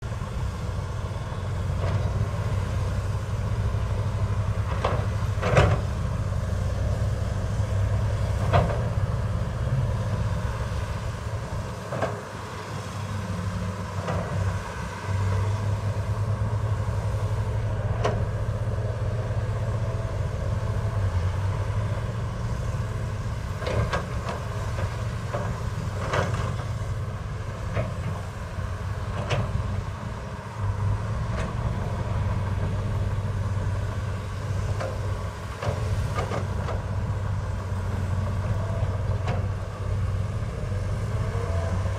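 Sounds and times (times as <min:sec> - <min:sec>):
heavy machinery engine hum: 0:00.0 - 0:41.9.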